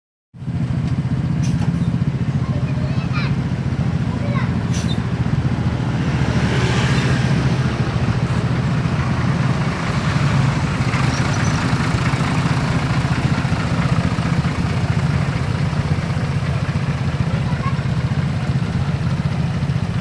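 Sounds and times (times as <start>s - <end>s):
diesel engine idling: 0.4s - 20.0s.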